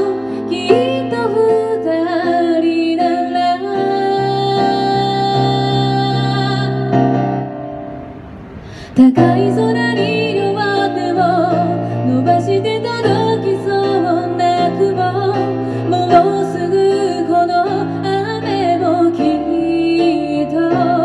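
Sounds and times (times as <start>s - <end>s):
woman singing: 0.0s - 7.2s, 8.9s - 21.0s
piano keyboard chords: 0.0s - 21.0s.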